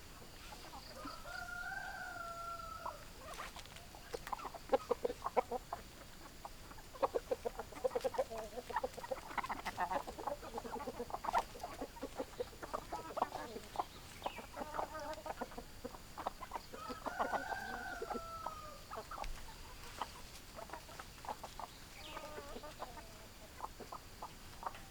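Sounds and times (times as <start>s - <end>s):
chickens clucking: 0.0s - 24.9s.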